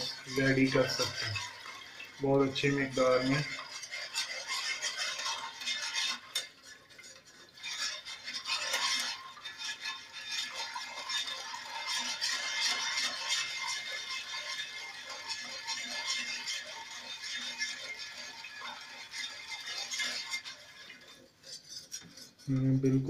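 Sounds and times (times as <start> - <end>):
metal spoon scraping saucepan: 0.0 - 23.0.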